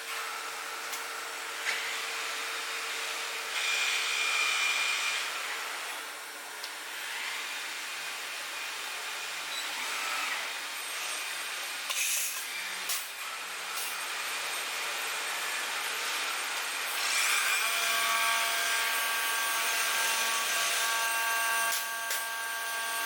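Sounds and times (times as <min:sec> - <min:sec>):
stone-cutting machine whine: 0:00.3 - 0:23.0.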